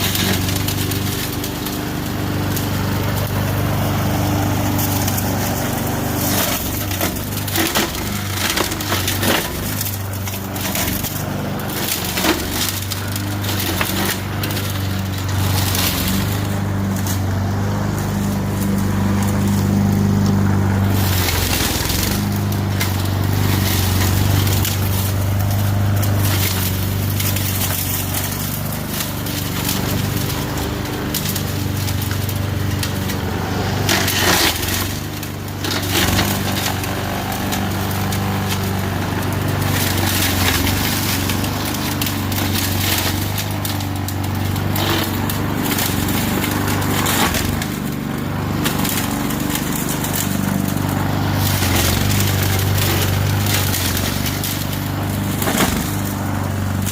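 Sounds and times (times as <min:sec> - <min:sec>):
lawn mower engine running: 0:00.0 - 0:56.9
wood cracking and splintering: 0:00.0 - 0:56.9.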